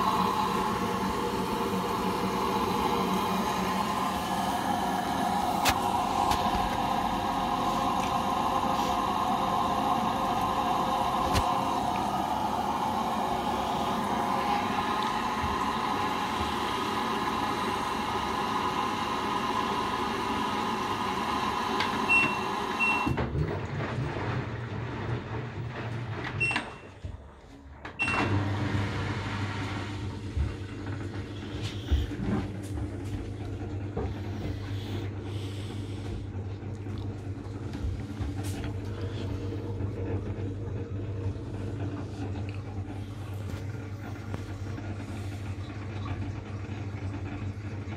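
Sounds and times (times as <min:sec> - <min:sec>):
washing machine running: 0:00.0 - 0:47.9.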